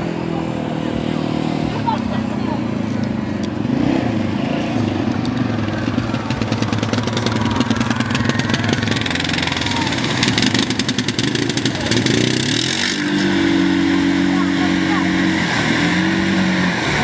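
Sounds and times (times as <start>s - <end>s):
atv engines revving: 0.0s - 17.0s.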